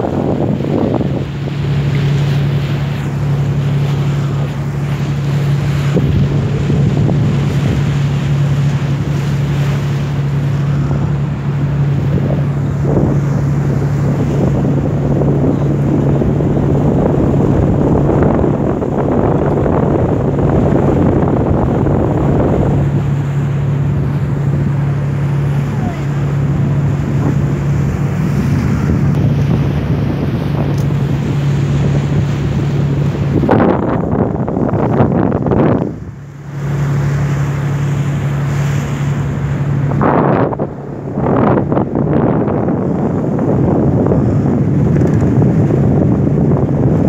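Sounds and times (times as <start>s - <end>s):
boat engine humming: 0.0s - 47.0s
water rushing past hull: 0.0s - 47.0s
wind buffeting microphone: 0.0s - 47.0s.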